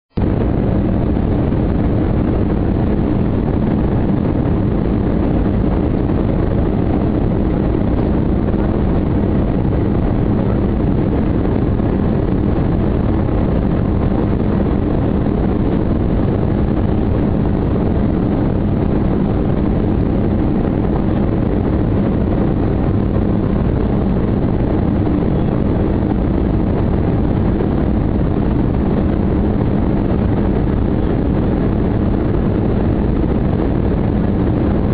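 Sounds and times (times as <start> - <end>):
airliner cabin engine rumble: 0.1 - 34.9.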